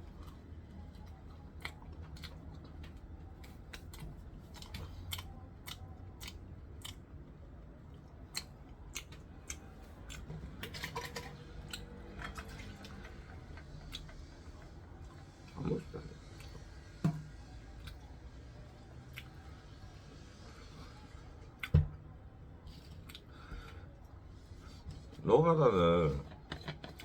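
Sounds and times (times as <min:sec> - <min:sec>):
soft crunching chewing: 0:00.0 - 0:25.2.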